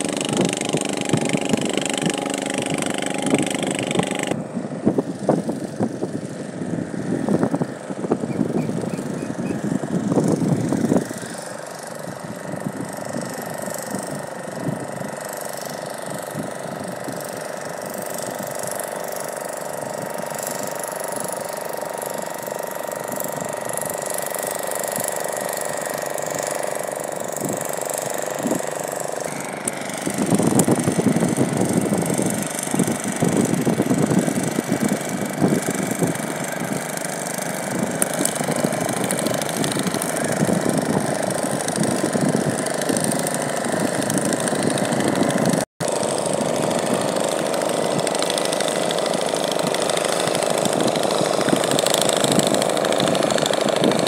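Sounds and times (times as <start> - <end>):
motor engine humming: 0.0 - 54.0
rough engine rumble: 0.0 - 54.0.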